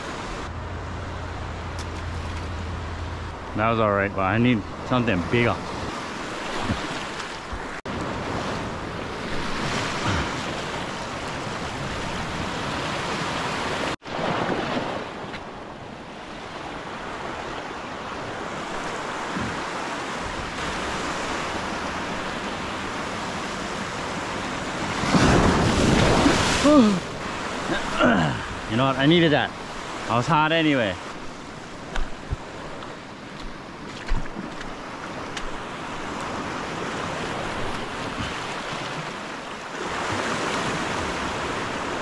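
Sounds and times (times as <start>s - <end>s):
ocean surf washing on shore: 0.0s - 42.0s.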